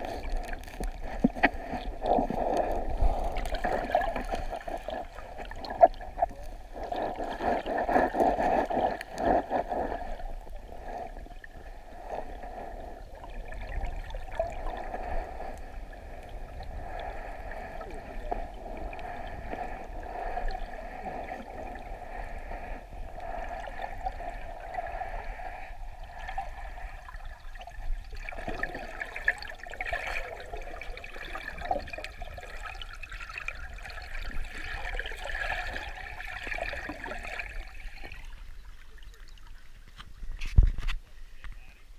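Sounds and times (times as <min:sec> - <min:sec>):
underwater river current rushing: 0:00.0 - 0:40.4.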